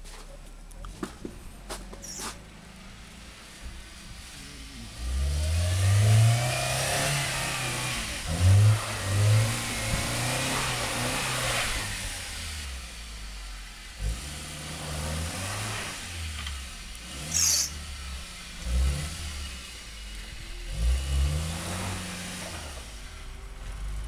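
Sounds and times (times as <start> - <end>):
car engine revving: 0.8 - 24.0.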